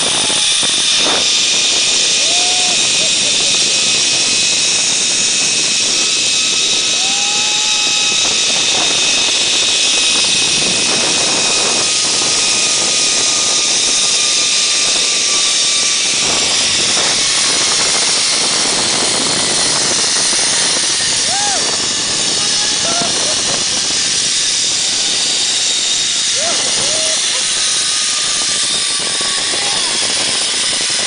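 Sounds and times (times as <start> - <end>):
loud rushing noise: 0.0 - 31.0
zip-line pulley whine: 0.0 - 31.0.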